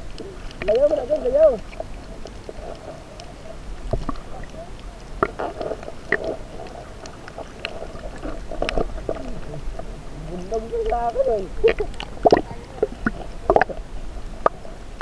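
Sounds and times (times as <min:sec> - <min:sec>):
low steady rumble: 0:00.0 - 0:15.0
underwater clicks and crackles: 0:00.0 - 0:15.0.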